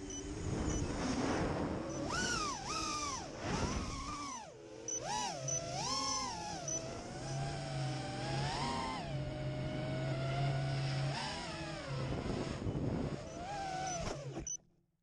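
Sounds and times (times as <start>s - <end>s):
quadcopter motors whining: 0.0s - 14.6s.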